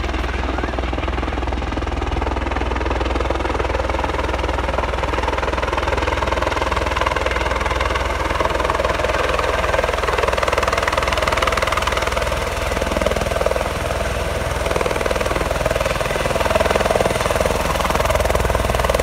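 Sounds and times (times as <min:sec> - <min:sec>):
helicopter rotor beating: 0:00.0 - 0:19.0
helicopter turbine running: 0:00.0 - 0:19.0.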